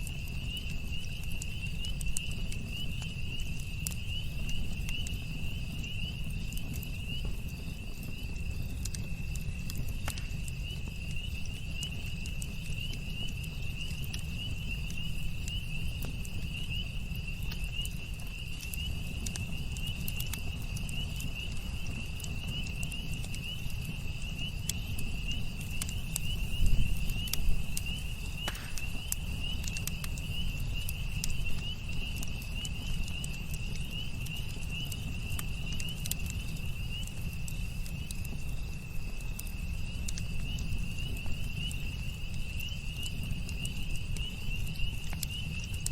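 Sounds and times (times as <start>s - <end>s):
campfire crackling and popping: 0.0s - 45.9s
low rumble of flames: 0.0s - 45.9s
night insects trilling: 0.0s - 45.9s.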